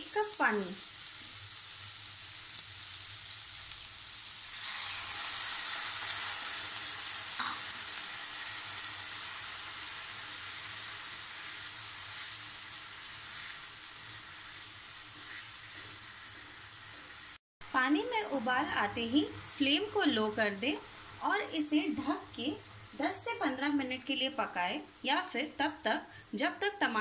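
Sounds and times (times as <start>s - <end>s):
masala sizzling in hot oil: 0.0s - 27.0s.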